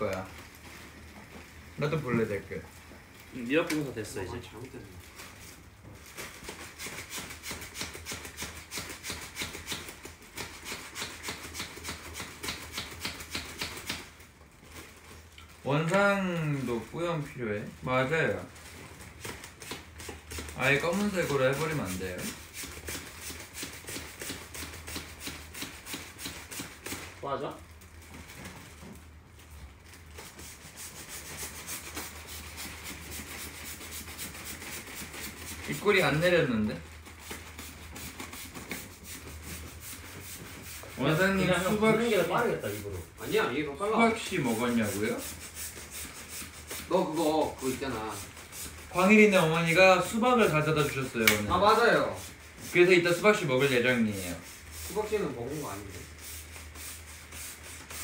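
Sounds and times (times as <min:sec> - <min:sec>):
rhythmic rubbing or scratching: 0:05.0 - 0:15.2, 0:16.1 - 0:27.3, 0:30.0 - 0:58.0.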